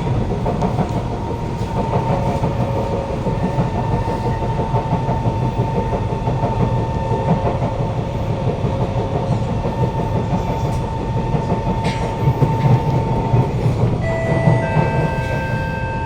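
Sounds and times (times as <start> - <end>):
wheel and rail rumble: 0.0 - 16.0
train motor whine: 2.4 - 16.0.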